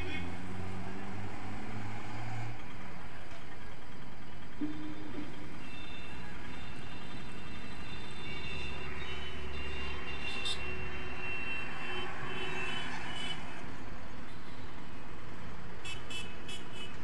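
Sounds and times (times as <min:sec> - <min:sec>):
outdoor traffic noise: 0:00.0 - 0:17.0.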